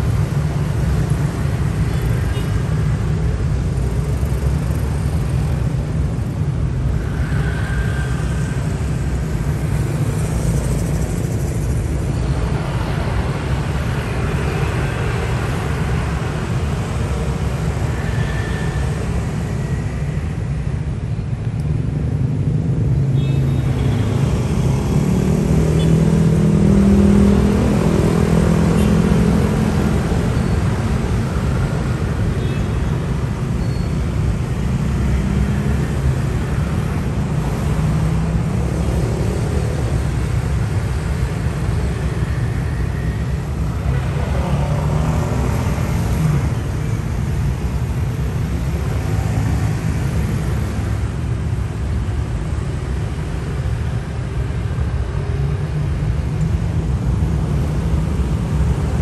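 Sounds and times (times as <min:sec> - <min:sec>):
motorcycles and cars passing: 0:00.0 - 0:59.0.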